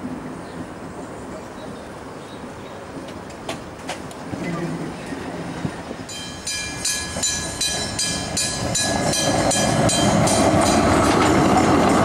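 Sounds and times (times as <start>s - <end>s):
tram passing close: 0.0s - 12.0s.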